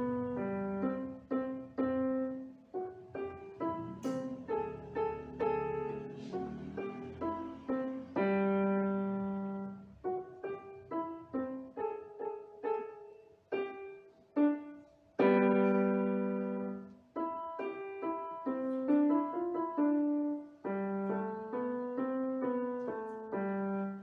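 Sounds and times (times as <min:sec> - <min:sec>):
electronic keyboard piano notes: 0:00.0 - 0:24.0.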